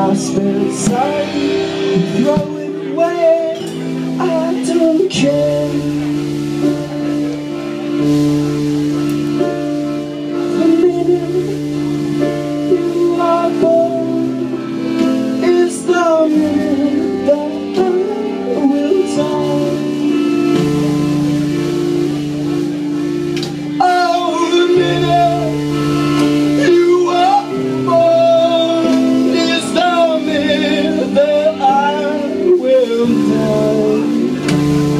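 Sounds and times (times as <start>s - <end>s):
accordion chords: 0.0s - 34.9s
drums: 0.0s - 34.9s
electric guitar lines: 0.0s - 34.9s.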